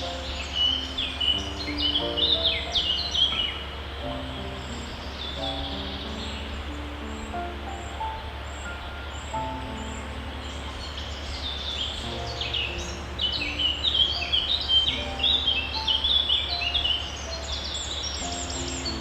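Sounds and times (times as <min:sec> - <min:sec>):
soft background music: 0:00.0 - 0:19.0
songbirds chirping: 0:00.0 - 0:19.0.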